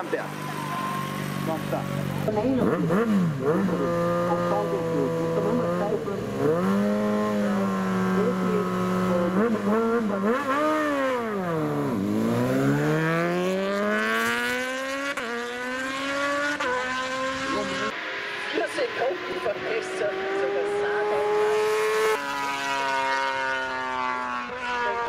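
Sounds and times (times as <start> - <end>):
racing motorcycle engine revving: 0.0 - 25.0.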